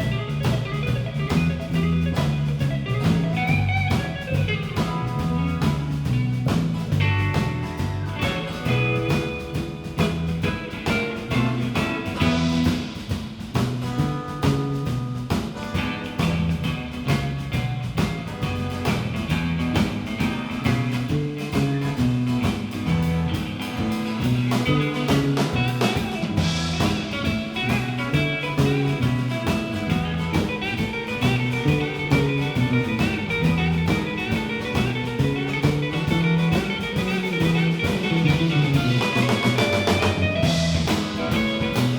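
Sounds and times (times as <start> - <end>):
bass line: 0.0 - 41.9
drum kit beat: 0.0 - 41.9
guitar: 0.0 - 41.9.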